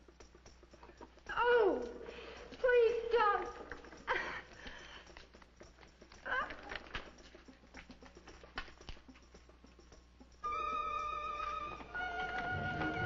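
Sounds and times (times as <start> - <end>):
film soundtrack crackle: 0.0 - 13.0.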